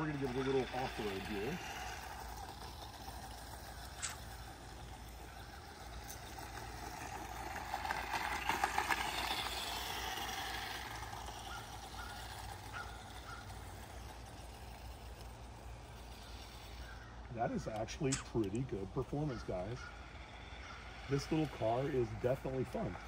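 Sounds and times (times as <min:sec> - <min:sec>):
plastic wheels rattling on concrete: 0:00.0 - 0:23.0
toy car motor whining: 0:00.0 - 0:23.0.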